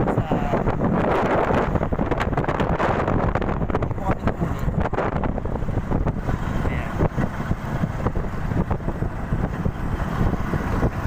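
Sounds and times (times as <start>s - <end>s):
vehicle engine rumble: 0.0s - 11.0s
wind buffeting microphone: 0.0s - 11.0s.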